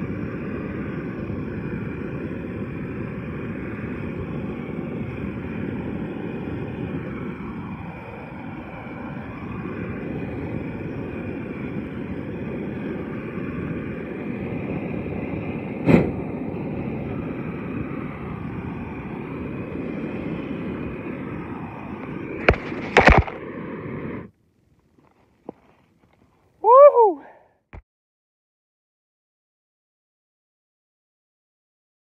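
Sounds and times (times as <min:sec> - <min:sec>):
propane torch roaring: 0:00.0 - 0:27.4.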